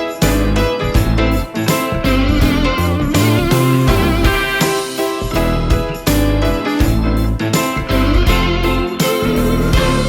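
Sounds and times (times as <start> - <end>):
keyboard and guitar chords: 0.0 - 10.0.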